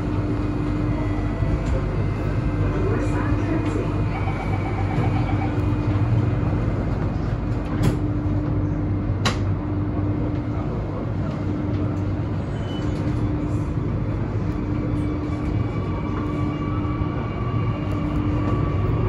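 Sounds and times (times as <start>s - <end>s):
constant low hum: 0.0s - 19.0s
metro train rumbling in tunnel: 0.0s - 19.0s.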